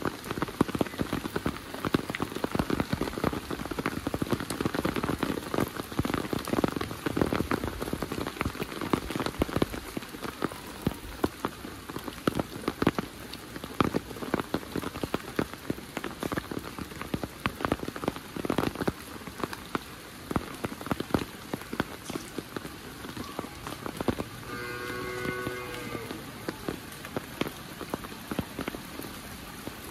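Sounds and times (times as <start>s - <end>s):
heavy rain falling: 0.0s - 29.9s
raindrops striking surfaces: 0.0s - 29.9s.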